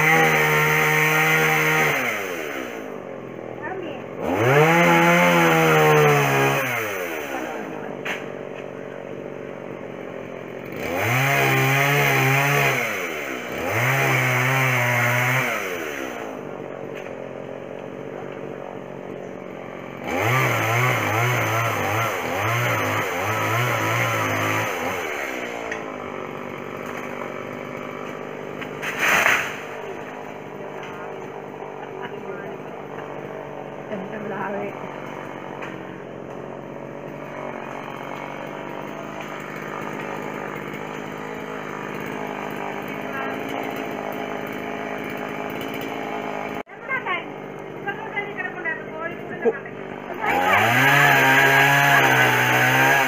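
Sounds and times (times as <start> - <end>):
chainsaw revving and idling: 0.0 - 53.0.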